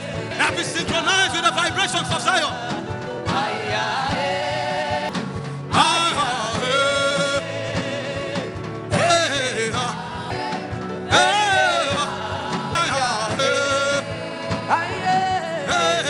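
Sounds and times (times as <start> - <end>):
person singing wordless phrases: 0.0 - 4.9, 5.7 - 16.0
sustained instrumental chords: 0.0 - 16.0.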